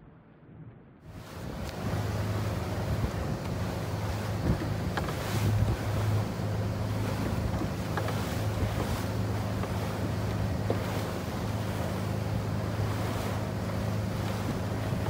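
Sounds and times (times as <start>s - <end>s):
outboard motor humming: 1.1s - 15.0s
water rushing along a hull: 1.1s - 15.0s
wind on microphone: 1.1s - 15.0s.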